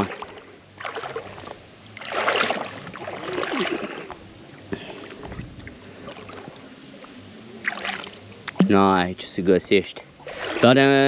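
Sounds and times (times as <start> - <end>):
water splashing in a stream: 0.0 - 6.8, 7.5 - 9.4, 10.0 - 11.0
flowing water: 0.0 - 11.0.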